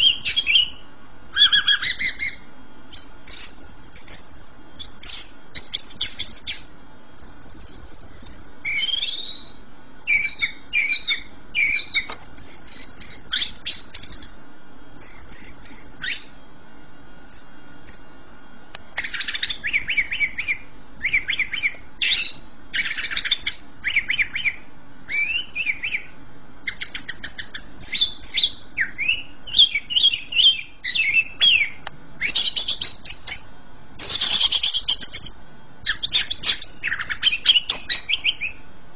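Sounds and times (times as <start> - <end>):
bird singing chirps and trills: 0.0 - 16.4, 17.3 - 18.2, 18.9 - 38.7.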